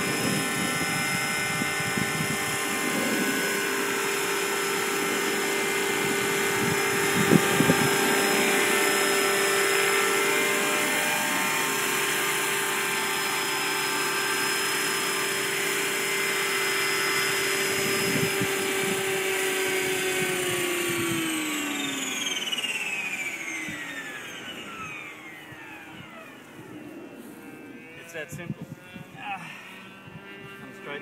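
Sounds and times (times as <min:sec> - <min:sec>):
rc helicopter motor whining: 0:00.0 - 0:31.0.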